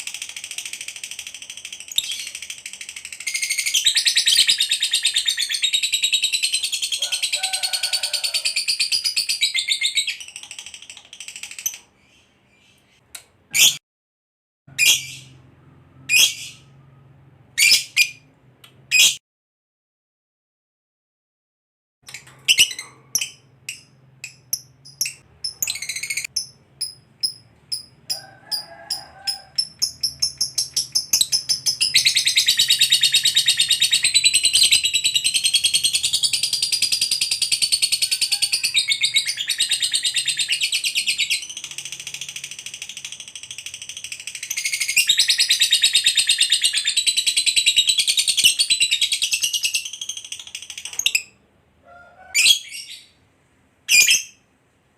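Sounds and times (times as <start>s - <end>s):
lovebird chirping and trilling: 0.0s - 13.8s, 14.7s - 15.4s, 16.0s - 16.8s, 17.6s - 18.3s, 18.9s - 19.2s, 22.0s - 51.4s, 52.1s - 53.2s, 53.9s - 54.4s.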